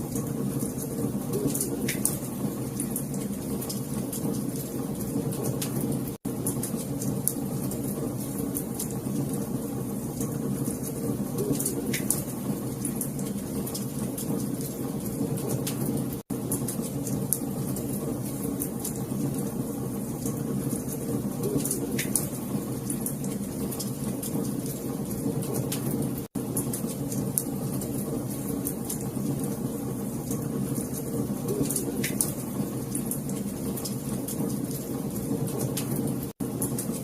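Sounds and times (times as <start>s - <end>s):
fire crackling and popping: 0.0s - 37.0s
low rumble of fire: 0.0s - 37.0s.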